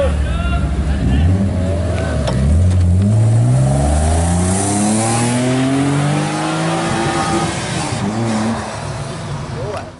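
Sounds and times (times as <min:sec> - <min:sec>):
car engine accelerating hard: 0:00.9 - 0:09.2.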